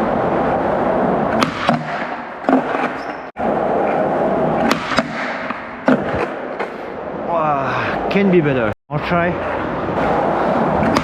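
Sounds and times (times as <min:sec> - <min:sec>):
skateboard wheels rolling on pavement: 0:00.0 - 0:07.3, 0:09.2 - 0:11.0.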